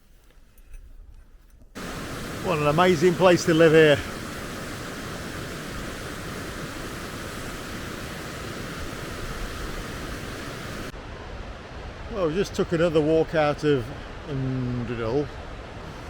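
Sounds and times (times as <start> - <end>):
running water rushing: 1.8 - 16.0.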